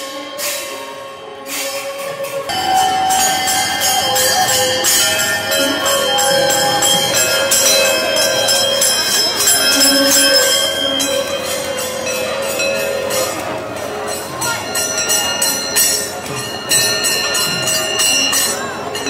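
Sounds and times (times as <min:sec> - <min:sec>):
bells ringing and clashing: 0:00.0 - 0:19.0
long held bell tones: 0:02.5 - 0:19.0.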